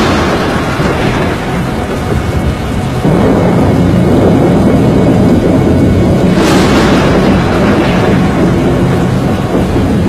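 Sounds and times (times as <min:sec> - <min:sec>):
tornado wind rushing: 0:00.0 - 0:10.0.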